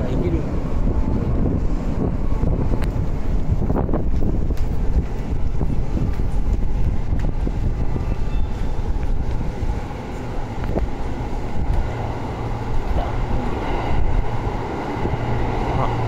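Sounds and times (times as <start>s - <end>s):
subway train rumbling: 0.0s - 16.0s
rush of air: 0.4s - 16.0s.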